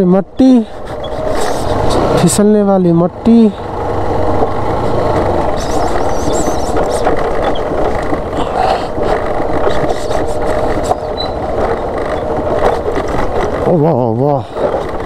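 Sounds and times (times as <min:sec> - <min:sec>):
knocks and rattles of bouncing bike: 0:00.0 - 0:15.0
motorcycle engine at low speed: 0:00.0 - 0:15.0.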